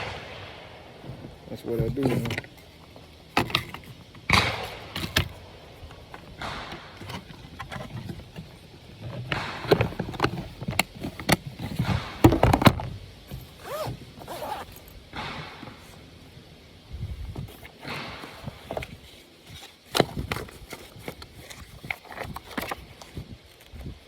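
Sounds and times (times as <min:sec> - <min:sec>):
gear scraping with clicks and knocks: 0:01.0 - 0:16.0, 0:17.3 - 0:23.9.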